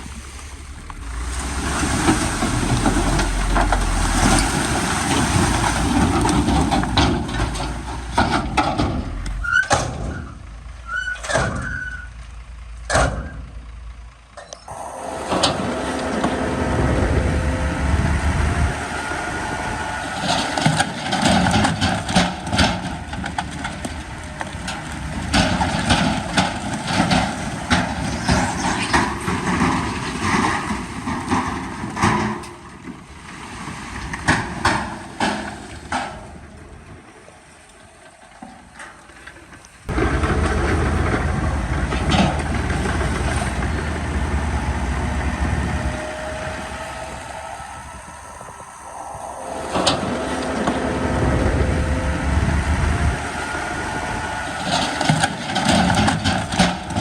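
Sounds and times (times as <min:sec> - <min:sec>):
earthmoving machinery running: 0:00.0 - 0:10.8, 0:14.5 - 0:32.2, 0:39.9 - 0:57.0
low engine rumble: 0:00.0 - 0:57.0.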